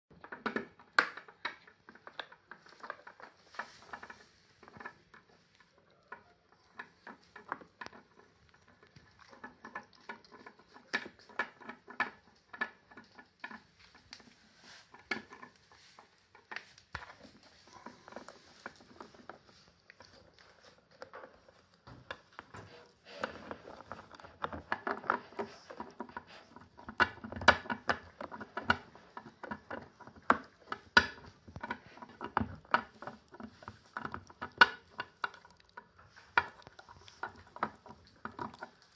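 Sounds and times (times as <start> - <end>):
dog chewing plastic toothbrush: 0.1 - 38.9.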